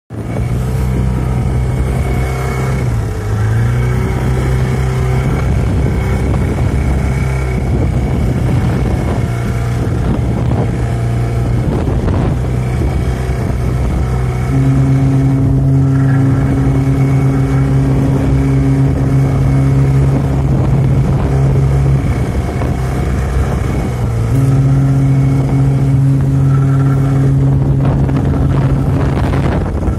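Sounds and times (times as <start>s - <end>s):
boat engine drone: 0.1s - 29.9s
deep ship's horn blasts: 0.1s - 29.9s.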